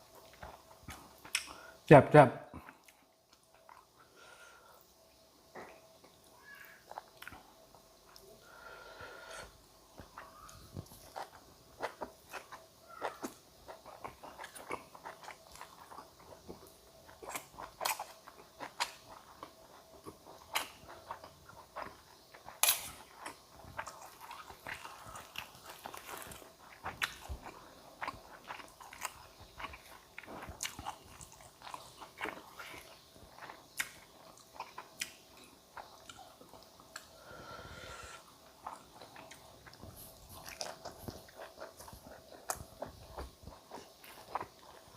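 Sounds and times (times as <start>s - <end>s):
person chewing crunchy food: 0.0s - 1.8s, 2.6s - 4.8s, 5.4s - 44.9s.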